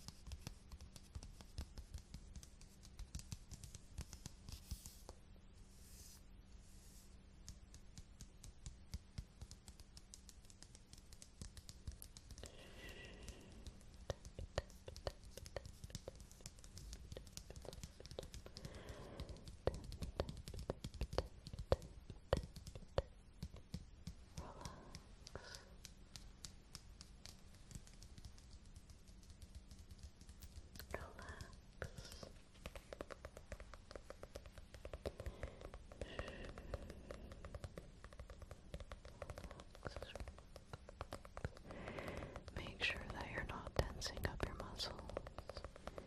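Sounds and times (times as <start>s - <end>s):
fingernail tapping and scratching: 7.4s - 46.0s.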